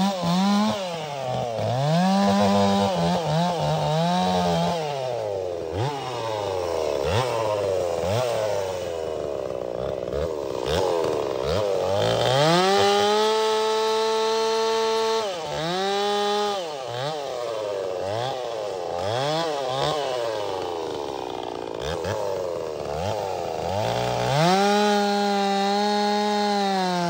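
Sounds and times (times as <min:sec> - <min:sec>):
chainsaw cutting: 0:00.0 - 0:27.0.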